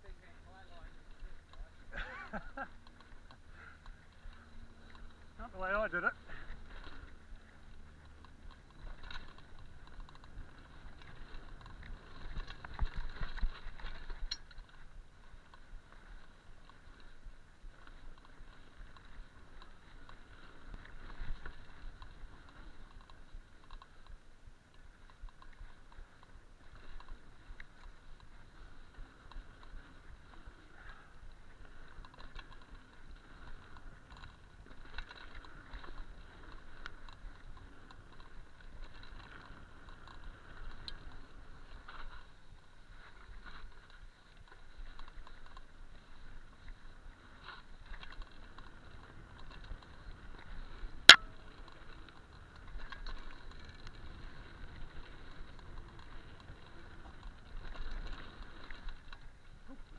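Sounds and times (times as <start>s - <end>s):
bike rolling clatter on rough trail: 0.0s - 59.9s.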